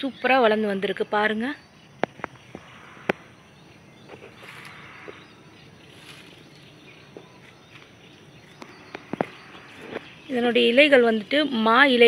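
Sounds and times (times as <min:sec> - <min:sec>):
faint birds: 0:00.0 - 0:12.0.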